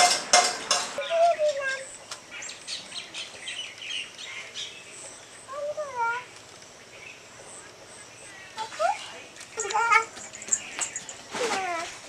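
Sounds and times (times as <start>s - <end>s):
birds chirping: 0.3s - 11.4s.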